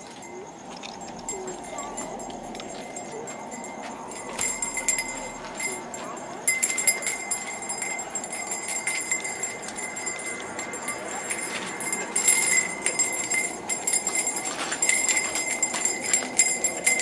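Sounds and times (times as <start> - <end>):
small metal bells jingling: 0.0 - 17.0.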